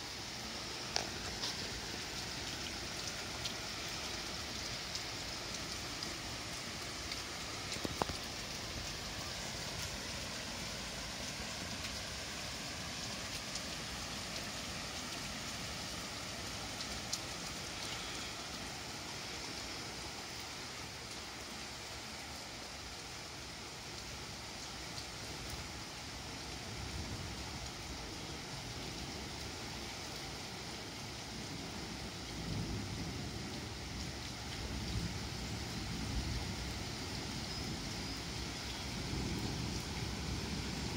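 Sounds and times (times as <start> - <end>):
rain on foliage and paving: 0.0 - 40.9.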